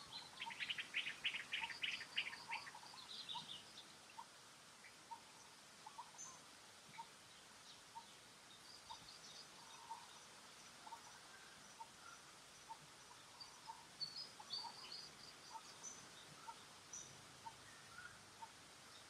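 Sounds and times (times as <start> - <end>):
faint bird chirps: 0.0 - 19.0
low background hiss: 0.0 - 19.0.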